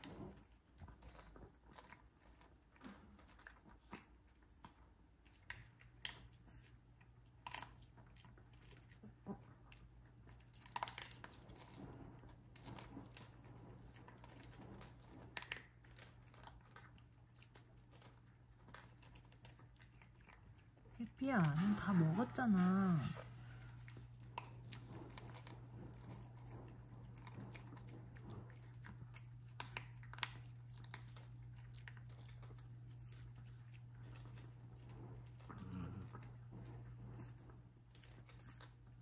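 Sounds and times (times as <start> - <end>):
dog crunching kibble: 0.0 - 39.0.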